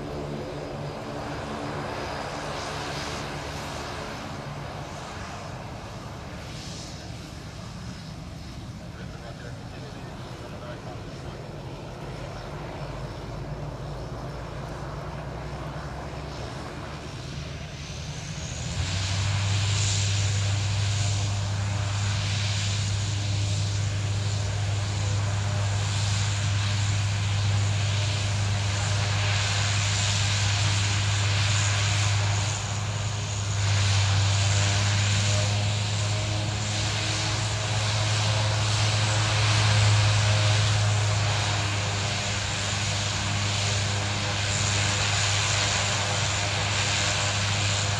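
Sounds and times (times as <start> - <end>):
deep propeller drone: 0.0 - 47.9.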